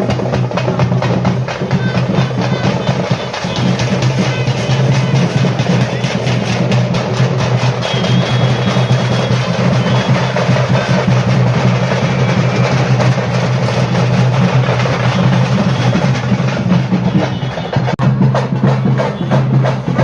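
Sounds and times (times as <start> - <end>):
loud fast drumming: 0.0 - 20.0.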